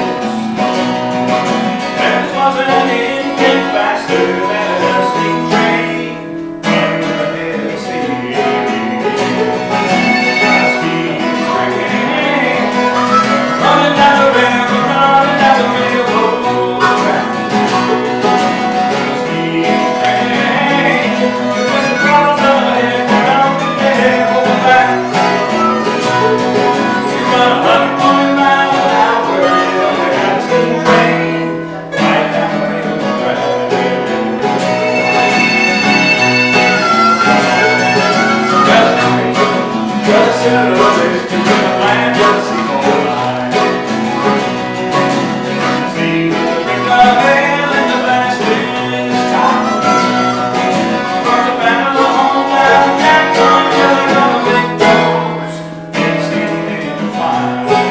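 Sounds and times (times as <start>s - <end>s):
harmonica: 0.0s - 57.9s
mandolin: 0.0s - 57.9s
strummed acoustic guitar: 0.0s - 57.9s.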